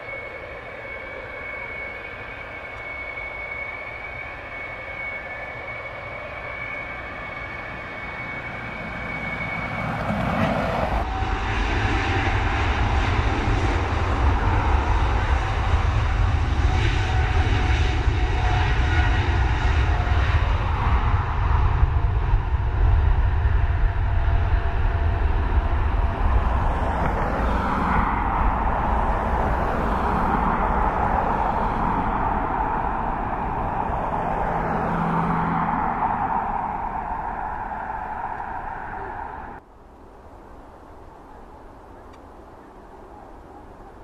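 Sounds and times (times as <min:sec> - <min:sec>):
jet engine deep rumble: 0:00.0 - 0:44.0
jet engine whine: 0:00.0 - 0:44.0.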